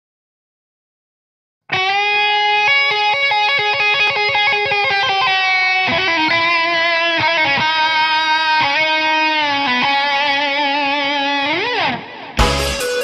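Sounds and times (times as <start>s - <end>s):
electric guitar melody: 1.7s - 13.0s.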